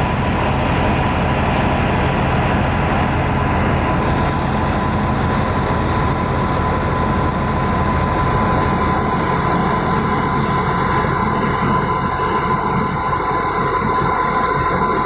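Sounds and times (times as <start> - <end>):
constant mechanical whine: 0.0 - 15.0
low engine hum: 0.0 - 15.0.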